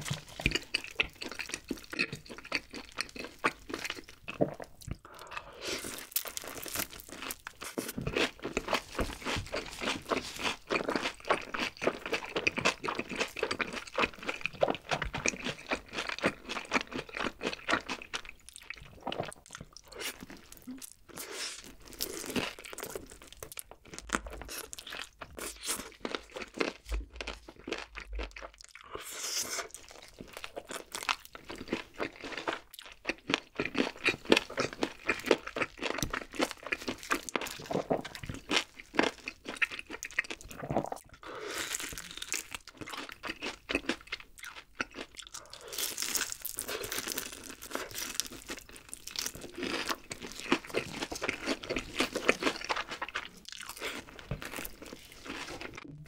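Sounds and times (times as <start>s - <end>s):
crunching fried chicken: 0.0s - 55.9s
wet chewing: 0.0s - 56.0s.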